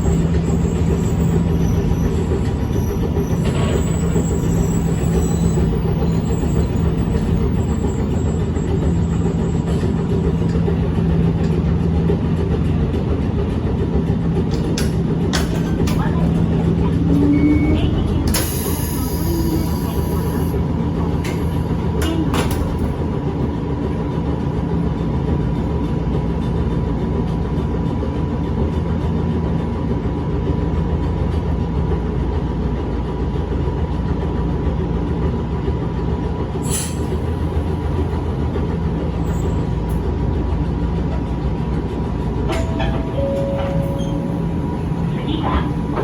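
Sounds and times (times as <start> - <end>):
railcar rumbling on track: 0.0 - 46.0.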